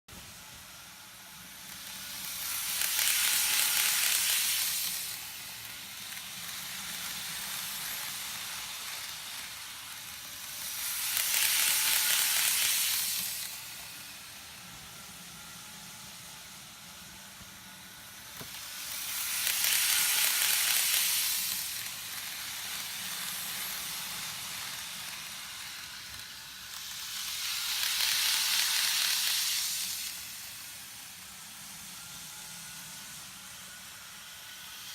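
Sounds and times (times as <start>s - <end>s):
model trains rolling hiss: 0.1s - 34.9s.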